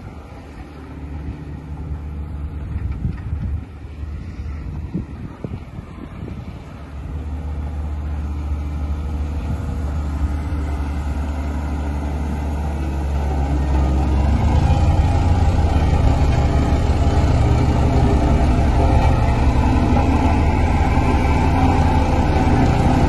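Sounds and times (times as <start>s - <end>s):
diesel engine humming: 0.0s - 23.0s
roller driving over gravel: 0.0s - 23.0s.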